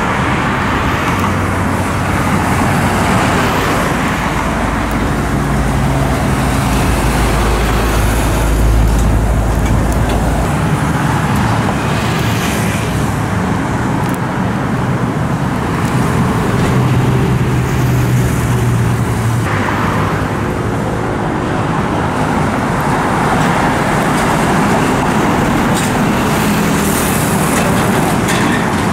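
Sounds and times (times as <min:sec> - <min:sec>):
motorcycle and car engines: 0:00.0 - 0:28.9
trucks rolling past: 0:00.0 - 0:28.9.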